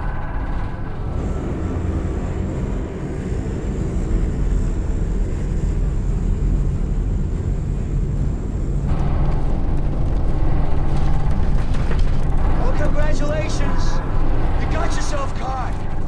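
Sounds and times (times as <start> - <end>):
turboprop plane drone: 0.0 - 16.0.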